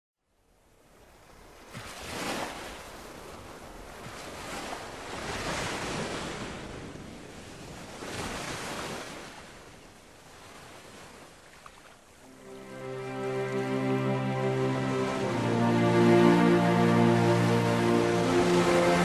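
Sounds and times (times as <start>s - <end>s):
waves washing in: 1.6s - 19.0s.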